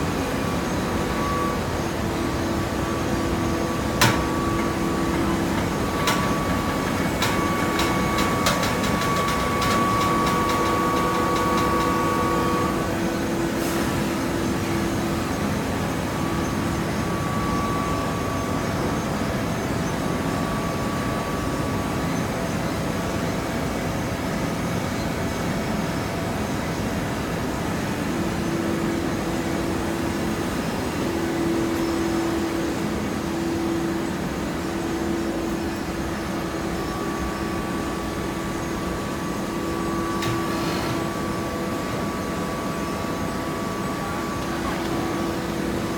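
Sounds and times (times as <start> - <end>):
hydraulic pump whine: 0.0 - 22.0, 27.5 - 45.9
baler mechanical hum: 0.0 - 45.9.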